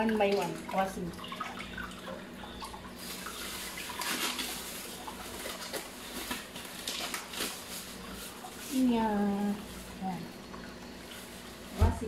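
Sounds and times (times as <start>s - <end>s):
fruit rinsed by hand: 0.0s - 12.0s.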